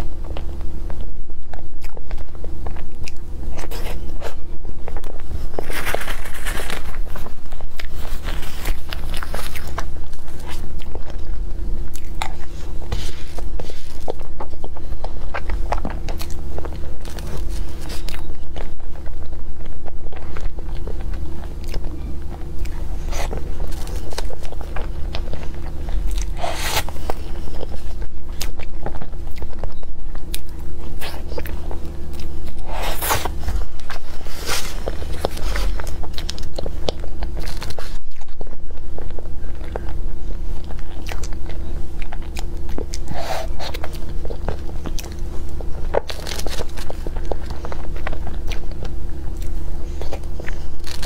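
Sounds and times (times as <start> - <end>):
low hum: 0.0 - 51.0
person chewing wet smacks: 0.2 - 51.0.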